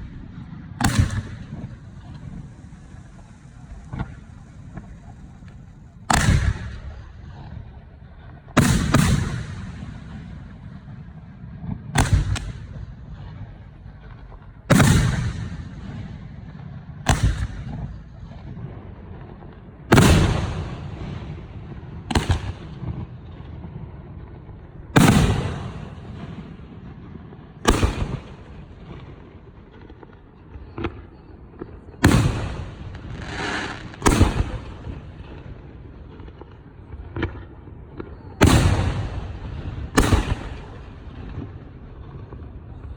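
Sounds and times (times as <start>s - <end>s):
fireworks booming: 0.0s - 42.9s.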